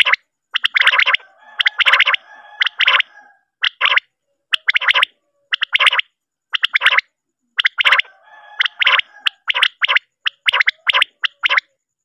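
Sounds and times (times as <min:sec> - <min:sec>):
quail calling: 0:00.0 - 0:07.0, 0:07.6 - 0:11.7.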